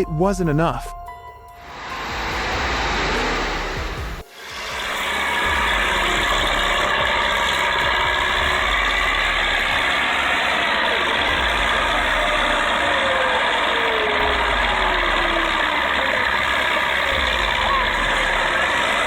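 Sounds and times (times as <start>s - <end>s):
tractor engine under heavy load: 1.6s - 19.0s.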